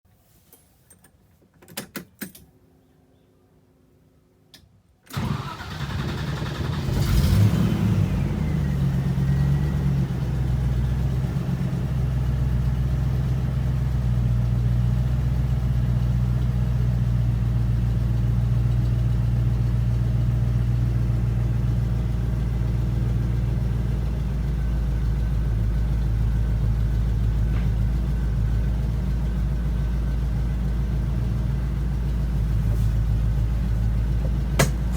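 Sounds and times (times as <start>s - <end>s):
car engine starting and idling: 5.1s - 34.9s.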